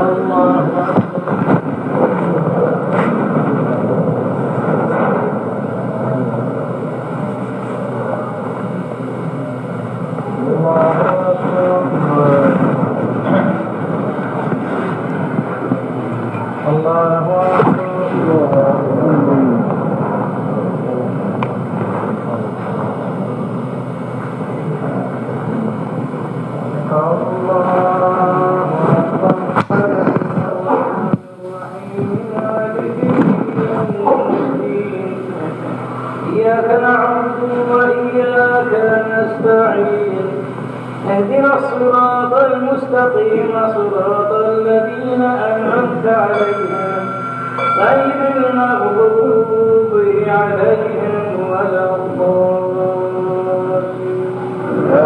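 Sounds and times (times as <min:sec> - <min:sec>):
steady rushing noise: 0:00.0 - 0:44.2
man chanting call to prayer: 0:00.0 - 0:55.0
recording hiss and rumble: 0:00.0 - 0:55.0.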